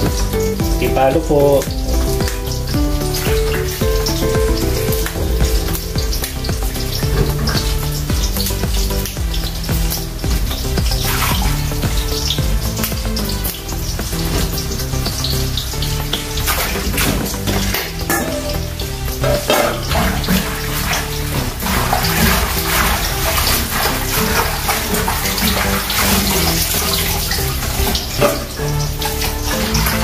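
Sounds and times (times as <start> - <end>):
background music: 0.0 - 30.0
tap water running into sink: 0.0 - 30.0.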